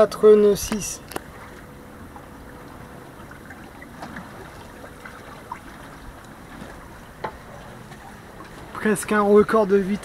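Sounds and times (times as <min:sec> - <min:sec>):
water rushing along hull: 0:00.0 - 0:10.0.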